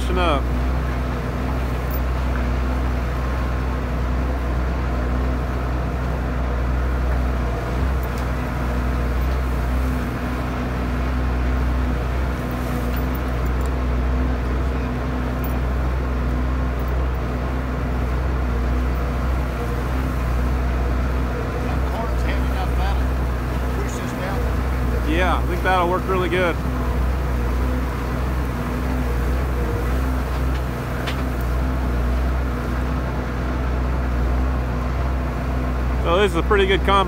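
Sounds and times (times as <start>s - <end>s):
feed mixer engine and auger hum: 0.0s - 37.0s.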